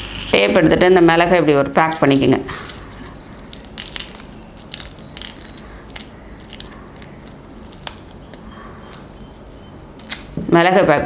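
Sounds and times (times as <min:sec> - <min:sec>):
tape and peppercorns crackling: 0:00.0 - 0:10.6.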